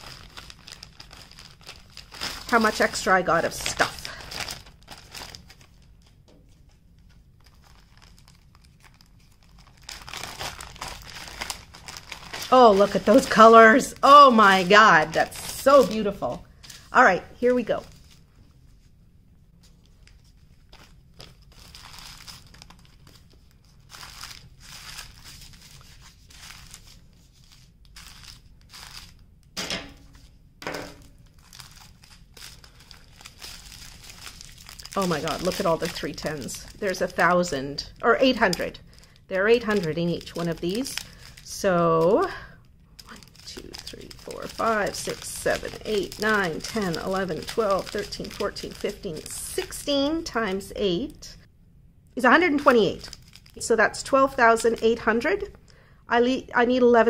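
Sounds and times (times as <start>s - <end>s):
plastic bags crinkling: 0.0s - 18.2s, 19.7s - 50.6s, 52.6s - 55.5s.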